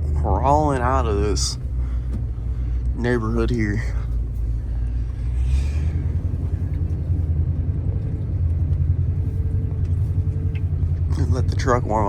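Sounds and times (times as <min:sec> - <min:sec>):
pickup engine low rumble: 0:00.0 - 0:12.0.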